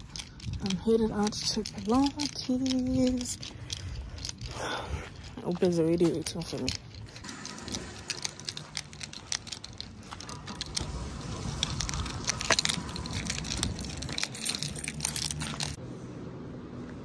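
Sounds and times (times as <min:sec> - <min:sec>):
small clicks and rattles: 0:00.0 - 0:15.8.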